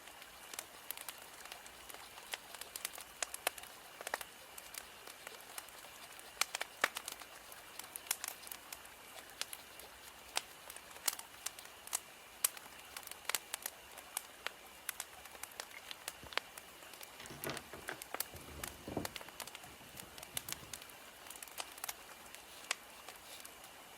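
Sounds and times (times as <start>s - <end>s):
faint hiss: 0.0s - 23.9s
firewood crackling and popping: 0.1s - 23.9s.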